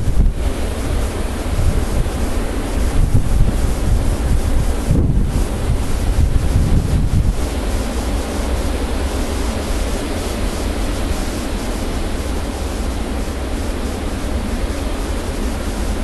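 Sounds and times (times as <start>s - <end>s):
wind buffeting microphone: 0.0s - 13.8s
blizzard wind rushing: 0.0s - 16.0s.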